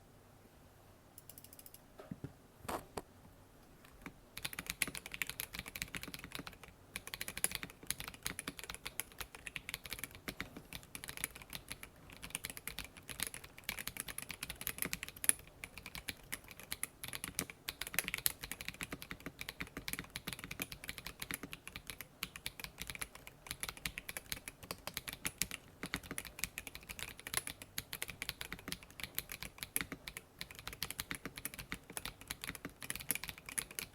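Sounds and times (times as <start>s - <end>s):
mechanical keyboard typing: 3.9s - 33.9s.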